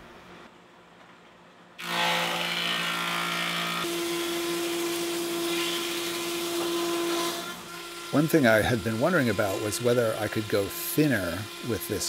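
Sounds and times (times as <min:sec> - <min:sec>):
thickness planer cutting wood: 0:01.8 - 0:12.0.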